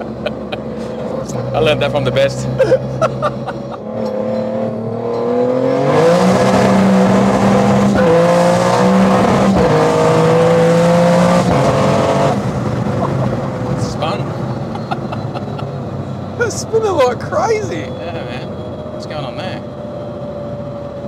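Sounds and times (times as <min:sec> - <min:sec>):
car engine accelerating hard: 0:00.0 - 0:19.6.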